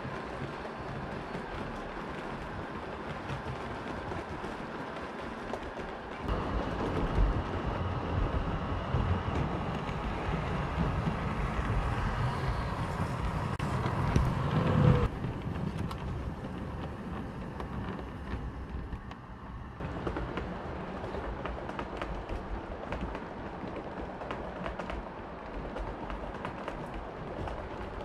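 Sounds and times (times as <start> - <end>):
model train rumbling: 0.0 - 28.0
wheels clicking on track: 0.0 - 28.0.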